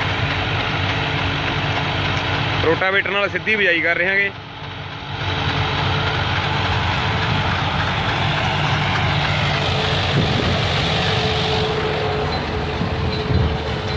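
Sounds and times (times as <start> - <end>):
diesel tractor engine under load: 0.0 - 13.9.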